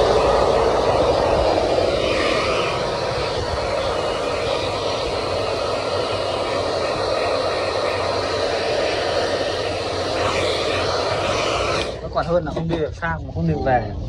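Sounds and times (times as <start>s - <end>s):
hair dryer blowing: 0.0s - 12.4s.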